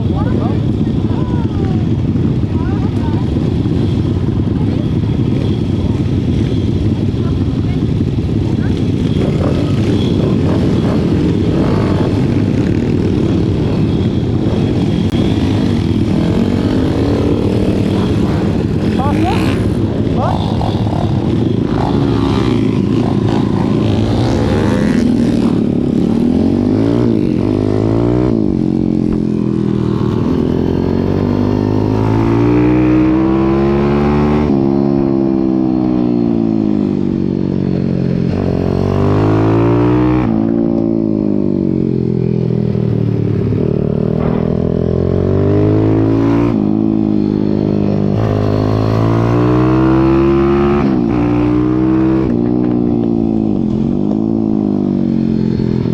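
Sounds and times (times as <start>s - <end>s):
motorbike engine revving: 0.0s - 37.2s, 42.8s - 55.9s.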